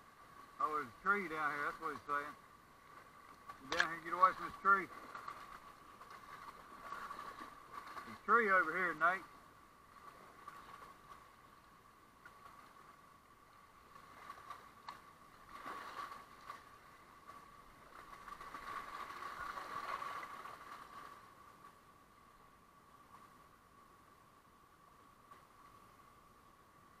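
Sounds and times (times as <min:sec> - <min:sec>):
rushing water: 0:00.0 - 0:22.0
water splashing around a kayak: 0:00.0 - 0:27.0.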